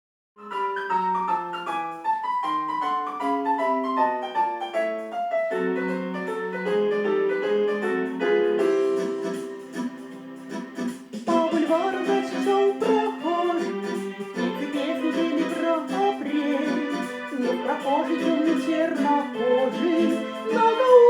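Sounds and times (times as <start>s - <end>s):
piano melody over chords: 0.4s - 21.0s.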